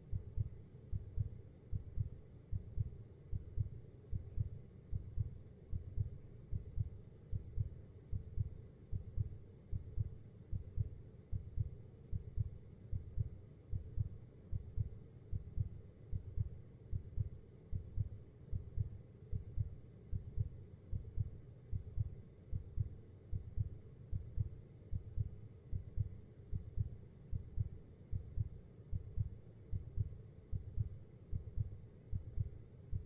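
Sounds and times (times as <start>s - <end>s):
faint hum: 0.0s - 33.0s
heartbeat thumps: 0.1s - 33.0s.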